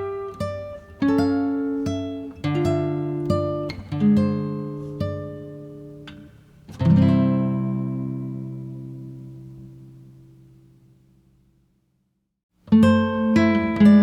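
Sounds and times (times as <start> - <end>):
acoustic guitar playing: 0.0 - 11.2, 12.6 - 14.0.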